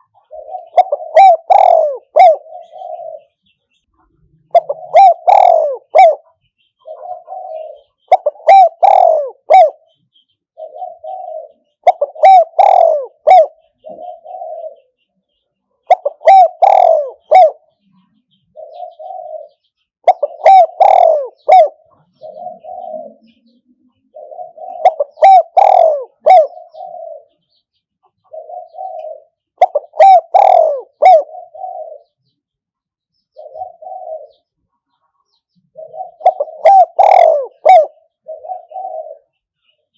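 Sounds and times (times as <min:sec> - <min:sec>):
dove cooing: 0:00.0 - 0:03.4, 0:04.4 - 0:15.0, 0:15.8 - 0:17.8, 0:18.5 - 0:27.6, 0:28.2 - 0:32.3, 0:33.3 - 0:34.6, 0:35.6 - 0:39.5.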